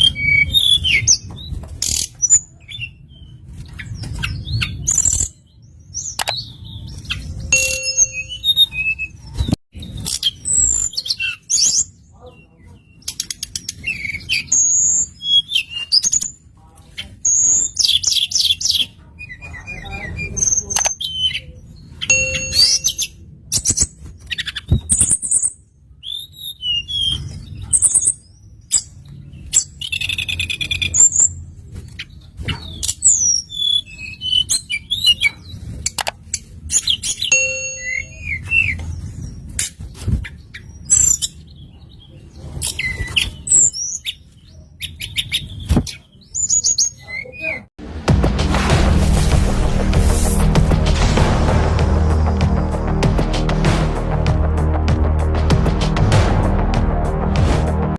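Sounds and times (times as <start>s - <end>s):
bird chirps and trills: 0.0s - 47.7s.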